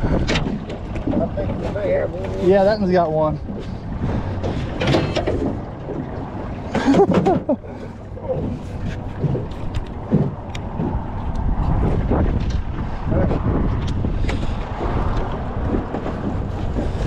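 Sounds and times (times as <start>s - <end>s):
knocks and splashes: 0.0s - 17.0s
wind buffeting microphone: 0.0s - 17.0s.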